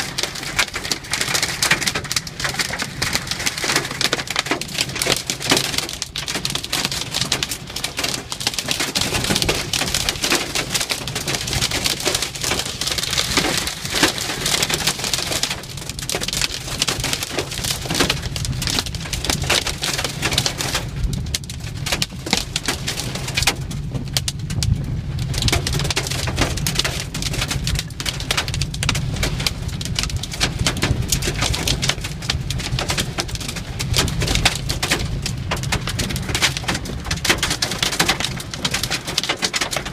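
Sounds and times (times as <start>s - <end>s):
hailstones pelting hard surfaces: 0.0s - 39.9s
heavy rain: 0.0s - 39.9s.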